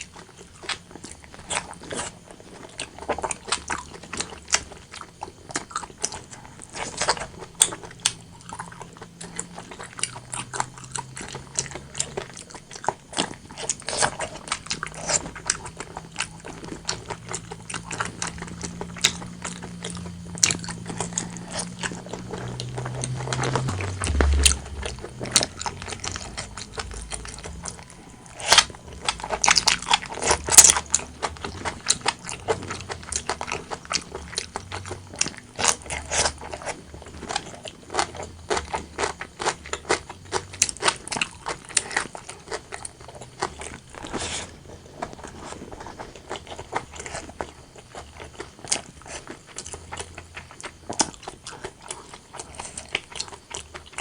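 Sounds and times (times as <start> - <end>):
person chewing with wet smacks: 0.0 - 54.0.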